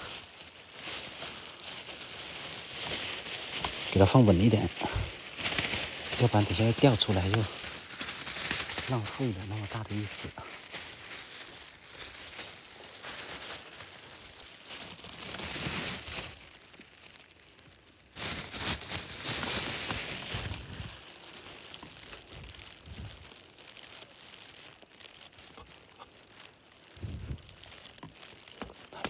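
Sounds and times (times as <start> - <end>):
crinkling and rustling handling noise: 0.0 - 29.0.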